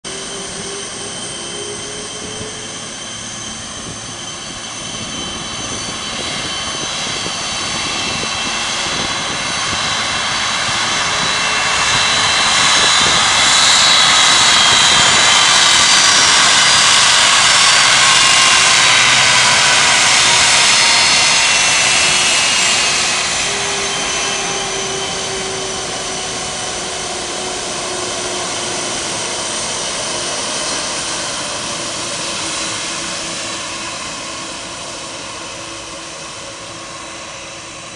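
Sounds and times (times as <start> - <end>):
jet engines whining: 0.0 - 37.9.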